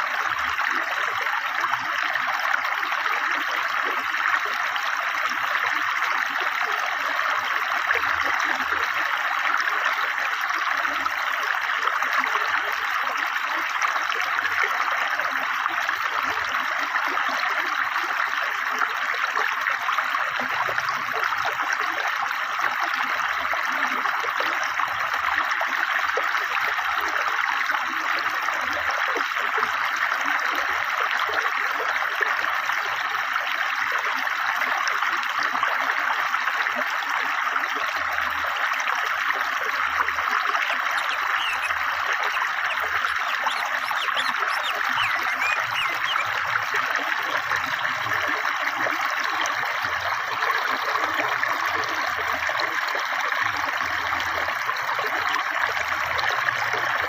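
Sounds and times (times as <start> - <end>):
fast-flowing river water: 0.0 - 57.0.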